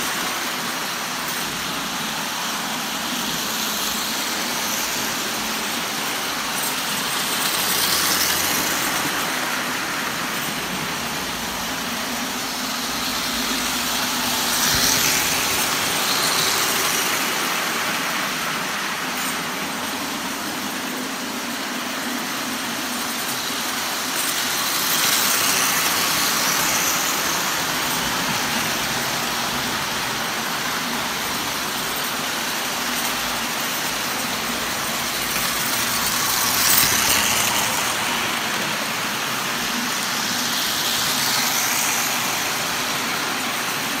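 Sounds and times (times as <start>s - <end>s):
toy trains rolling on metal track: 0.0s - 44.0s.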